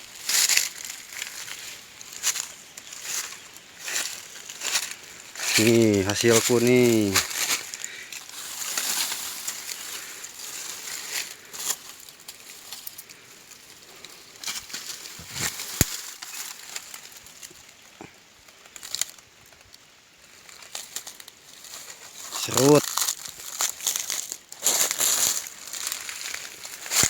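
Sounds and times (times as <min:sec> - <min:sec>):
rustling handling noise: 0:00.0 - 0:27.0.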